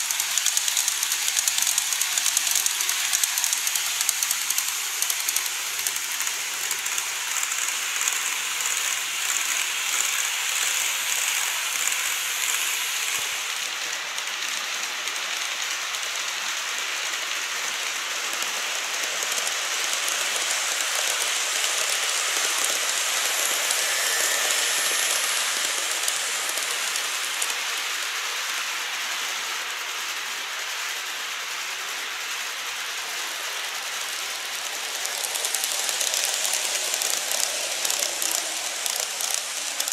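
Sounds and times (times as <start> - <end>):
model train wheels rattling on track: 0.0 - 39.9.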